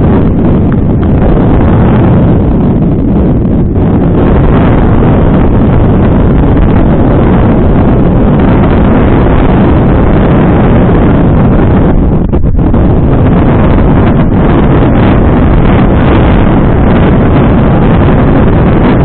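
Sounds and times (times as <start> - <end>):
bike tyres rumbling over trail: 0.0 - 19.0
wind buffeting microphone: 0.0 - 19.0.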